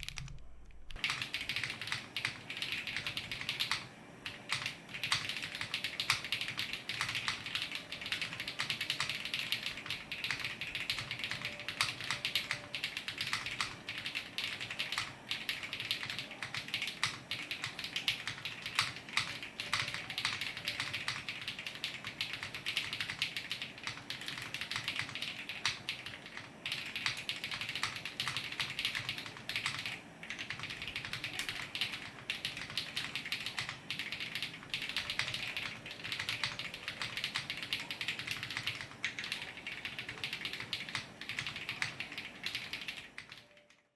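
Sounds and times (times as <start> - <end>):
mechanical keyboard typing: 0.0 - 43.8.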